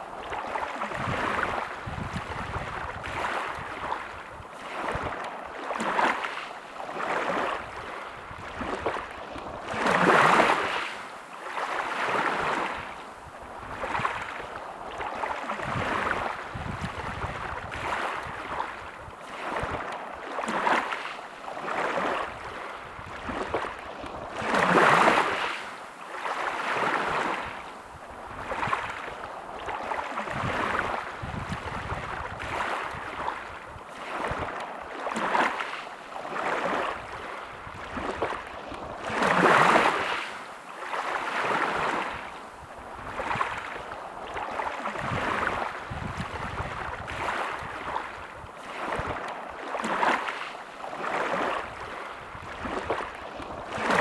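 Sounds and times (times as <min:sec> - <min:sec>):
sea waves washing on beach: 0:00.0 - 0:54.0.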